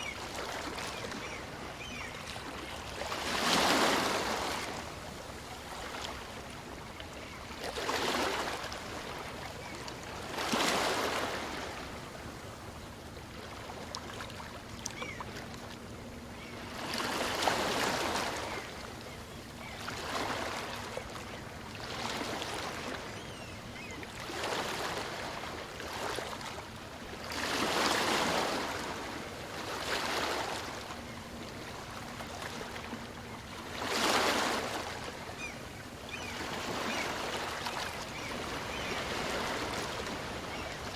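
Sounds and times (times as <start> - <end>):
small waves breaking on a beach: 0.0 - 40.9.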